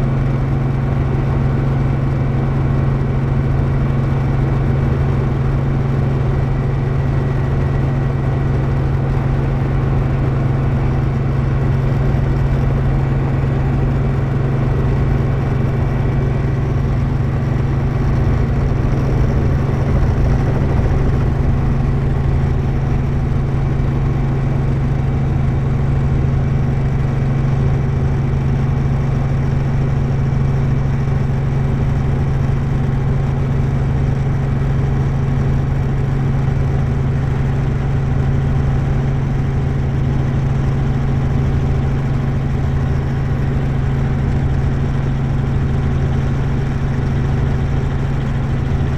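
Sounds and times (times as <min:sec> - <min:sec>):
helicopter rotor and engine drone: 0:00.0 - 0:48.9.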